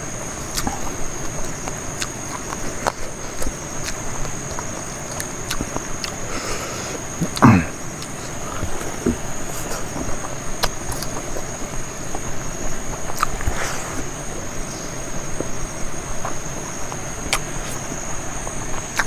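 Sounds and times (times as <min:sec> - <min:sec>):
insect drone: 0:00.0 - 0:19.0
wet chewing: 0:00.2 - 0:19.0
mouth clicks: 0:00.4 - 0:19.0.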